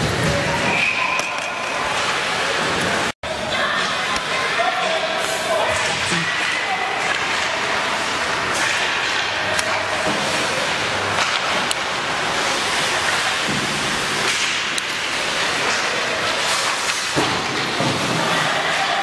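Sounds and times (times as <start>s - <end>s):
skating and arena noise: 0.0s - 19.0s.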